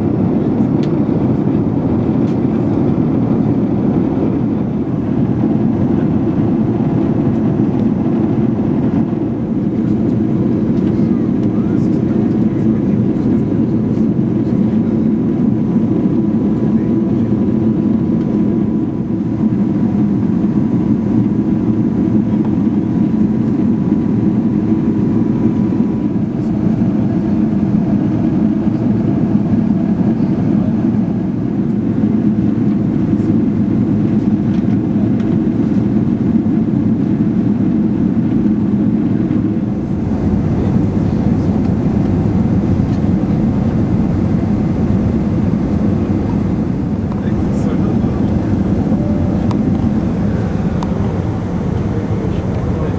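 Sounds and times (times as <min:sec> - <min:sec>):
aircraft cabin rumble: 0:00.0 - 0:52.9.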